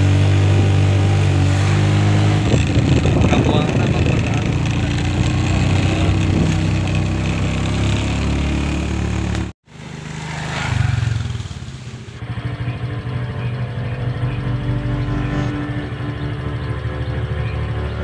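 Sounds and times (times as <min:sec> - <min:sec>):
distant motorbike humming: 0:00.0 - 0:18.0
motorbike passing by: 0:00.0 - 0:18.0
motorcycle engine running: 0:00.0 - 0:18.0.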